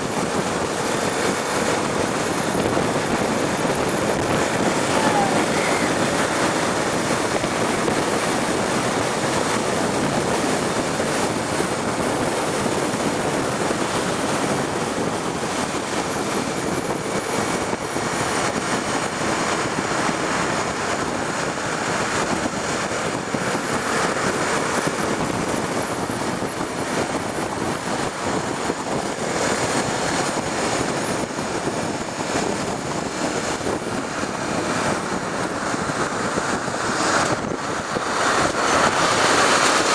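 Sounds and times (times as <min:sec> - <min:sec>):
motorcycle road noise at speed: 0:00.0 - 0:39.9
wind rush: 0:00.0 - 0:39.9.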